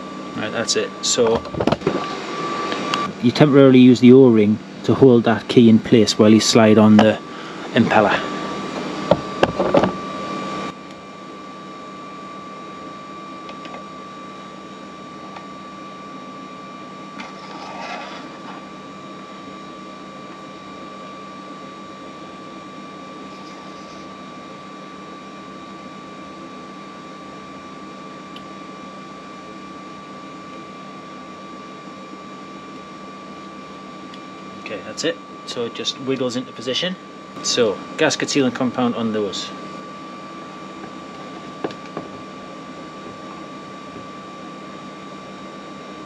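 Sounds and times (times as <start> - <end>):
mechanical hum with high whine: 0.0 - 46.0.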